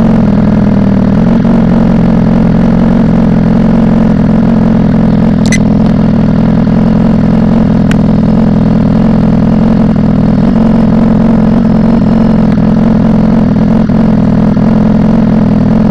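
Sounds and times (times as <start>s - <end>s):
loud motorcycle engine running: 0.0s - 15.9s.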